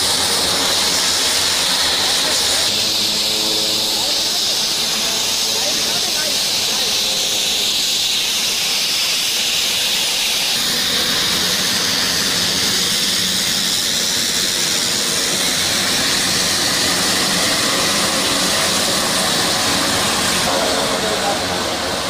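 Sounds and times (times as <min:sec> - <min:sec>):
turboprop engines hissing: 0:00.0 - 0:22.0.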